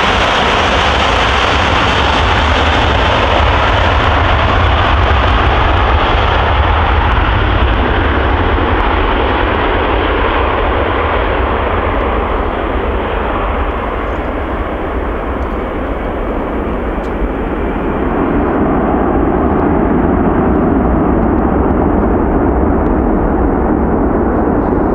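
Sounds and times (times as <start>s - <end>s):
jet engines roaring at takeoff: 0.0s - 24.9s.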